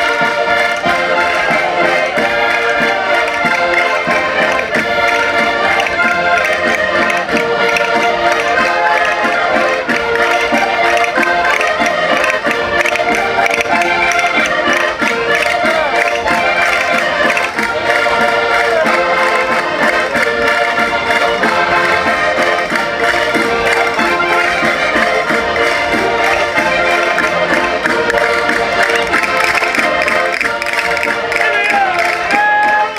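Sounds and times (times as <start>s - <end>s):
concertinas playing folk dance tune: 0.0s - 32.9s.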